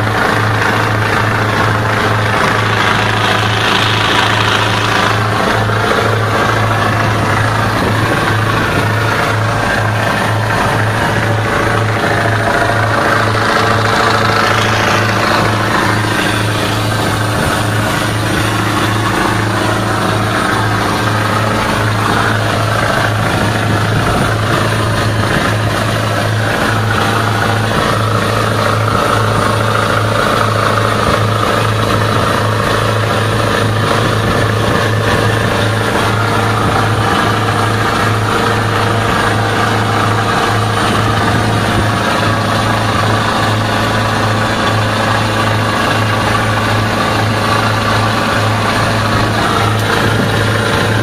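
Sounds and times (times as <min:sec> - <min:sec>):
boat engine droning: 0:00.0 - 0:51.0
churning wake: 0:00.0 - 0:51.0
wind: 0:00.0 - 0:51.0.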